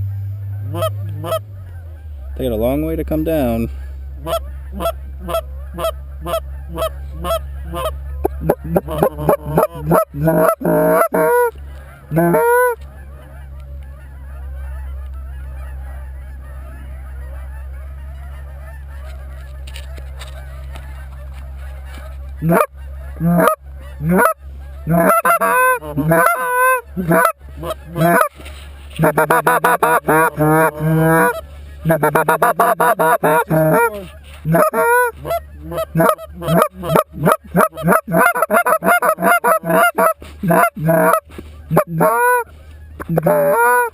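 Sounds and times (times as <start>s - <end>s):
geese honking close: 0.0s - 43.9s.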